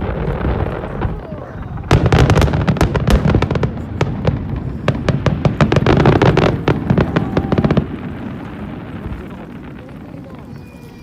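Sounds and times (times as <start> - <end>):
fireworks crackling and popping: 0.0 - 11.0
low rumble of fireworks: 0.0 - 11.0.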